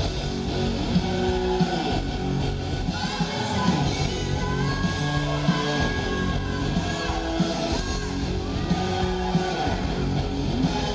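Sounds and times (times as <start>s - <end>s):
amplified guitars and keyboards: 0.0s - 10.9s.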